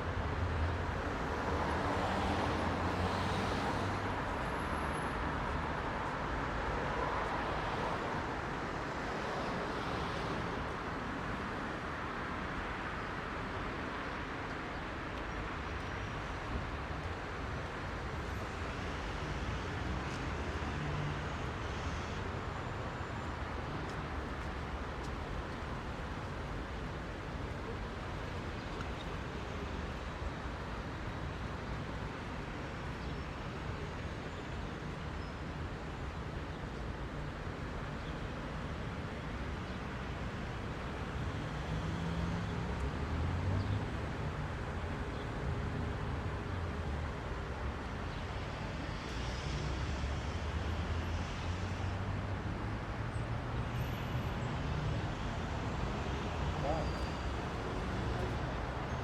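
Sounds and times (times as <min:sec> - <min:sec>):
heavy road traffic: 0:00.0 - 0:59.0.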